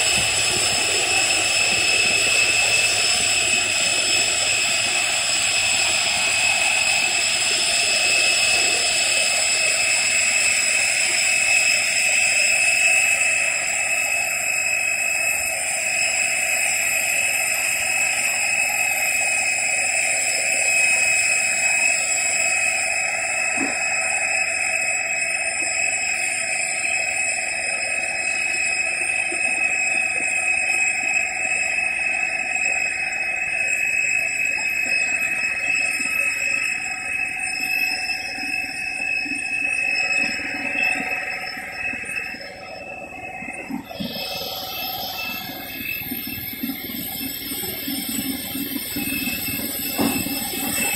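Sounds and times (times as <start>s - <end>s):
jet turbine whine: 0.0s - 50.9s.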